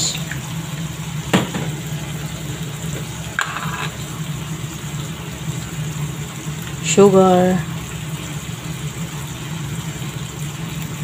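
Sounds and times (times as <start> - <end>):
squid sizzling in a wok: 0.0 - 11.0.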